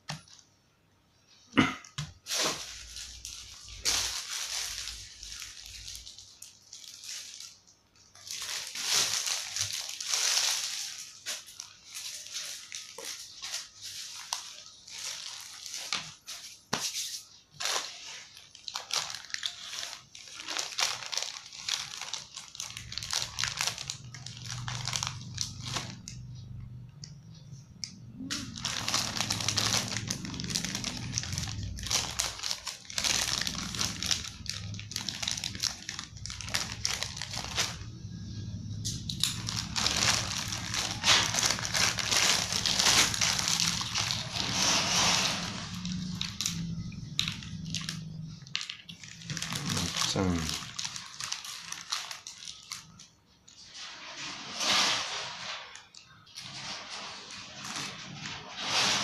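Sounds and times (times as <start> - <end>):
plastic bag crinkling: 2.0 - 27.5, 28.2 - 59.0.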